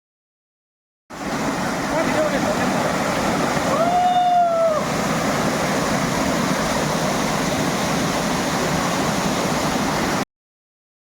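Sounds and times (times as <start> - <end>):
waterfall rushing: 1.1 - 10.2.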